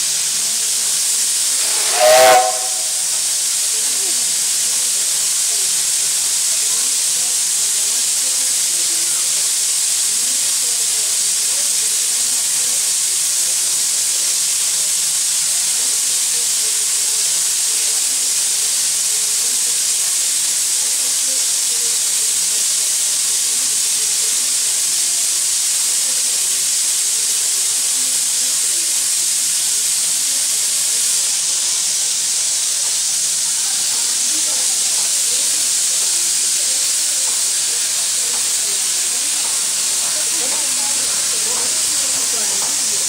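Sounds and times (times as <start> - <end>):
locomotive steam hissing: 0.0 - 43.0.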